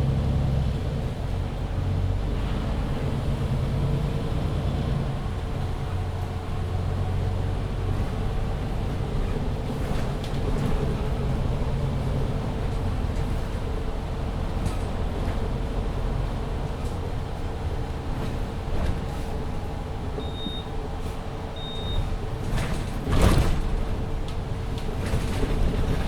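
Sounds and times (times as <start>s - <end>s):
bus engine hum: 0.0s - 26.0s
road noise: 0.0s - 26.0s.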